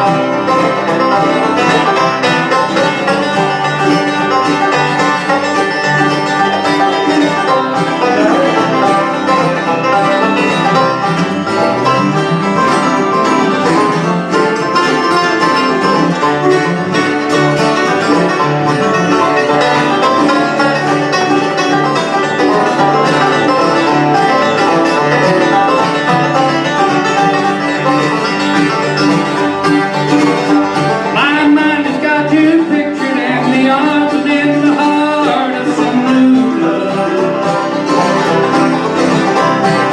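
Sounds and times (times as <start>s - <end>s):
acoustic guitars: 0.0s - 39.9s
banjo rolls: 0.0s - 39.9s
mandolin: 0.0s - 39.9s
upright bass: 0.0s - 39.9s.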